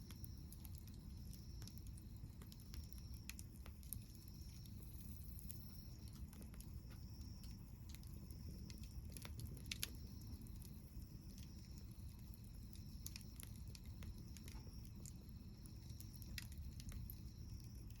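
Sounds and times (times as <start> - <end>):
campfire wood crackling: 0.0 - 18.0
low steady fire rush: 0.0 - 18.0.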